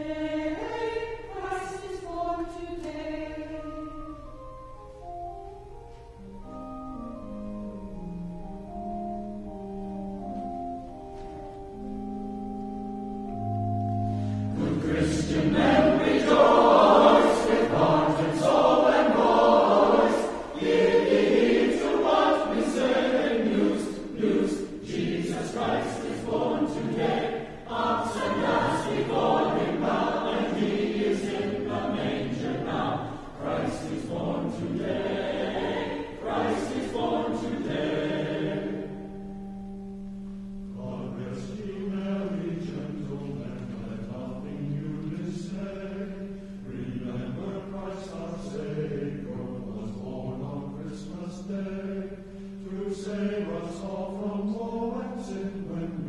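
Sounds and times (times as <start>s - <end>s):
choir singing: 0.0s - 4.3s, 13.3s - 39.9s, 40.7s - 56.0s.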